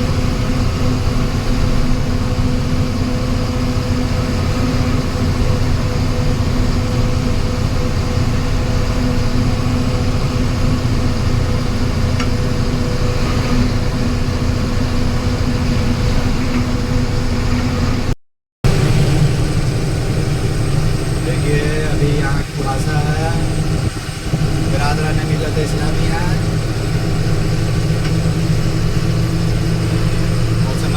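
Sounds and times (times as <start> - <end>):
vehicle driving on highway: 0.0 - 30.9.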